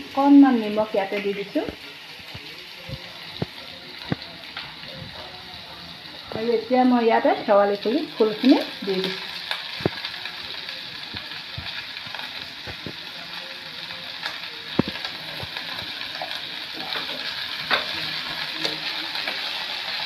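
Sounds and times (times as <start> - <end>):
flowers sizzling in hot oil: 0.0 - 20.0.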